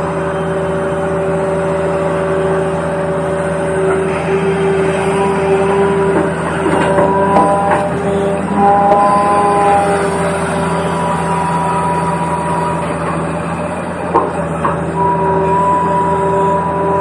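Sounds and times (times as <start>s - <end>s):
toy excavator motor humming: 2.1s - 17.0s.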